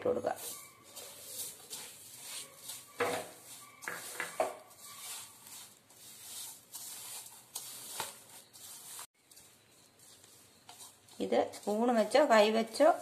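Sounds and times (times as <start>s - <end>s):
fingers rubbing banana with sugar: 0.3s - 13.0s.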